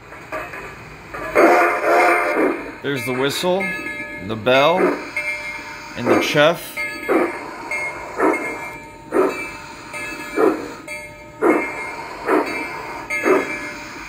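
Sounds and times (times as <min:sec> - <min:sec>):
steam locomotive exhaust chuffs: 0:00.0 - 0:14.0.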